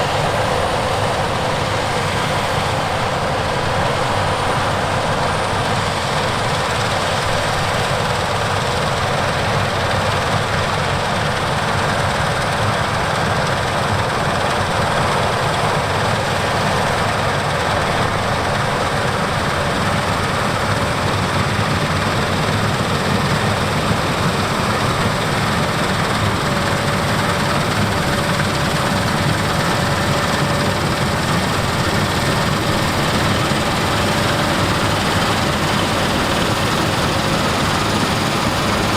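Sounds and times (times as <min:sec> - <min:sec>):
diesel harvest machinery running: 0:00.0 - 0:38.9.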